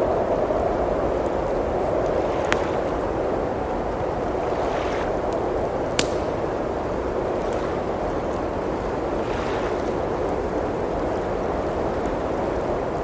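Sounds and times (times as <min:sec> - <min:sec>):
blizzard wind: 0:00.0 - 0:13.0
wood fire crackling: 0:00.0 - 0:13.0.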